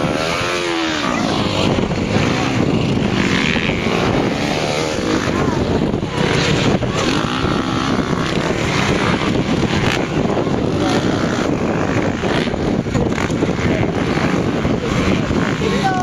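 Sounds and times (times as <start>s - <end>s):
motocross bike engines revving: 0.0s - 16.0s
wind buffeting microphone: 0.0s - 16.0s.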